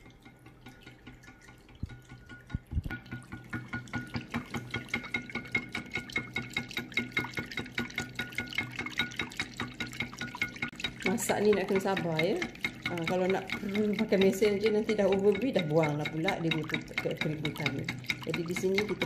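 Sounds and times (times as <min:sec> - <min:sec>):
whisk beating cream in glass dish: 0:00.0 - 0:19.0.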